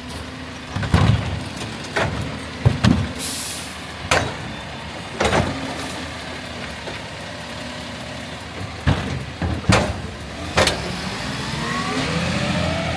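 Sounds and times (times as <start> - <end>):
garbage truck engine idling: 0.0 - 11.0.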